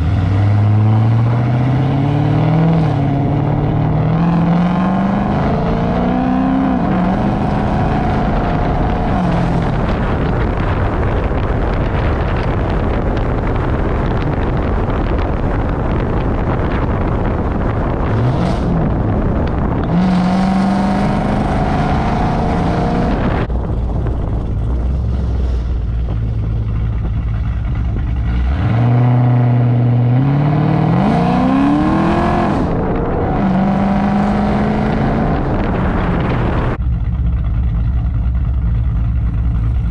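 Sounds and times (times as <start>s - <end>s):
car exhaust revving: 0.0s - 39.9s.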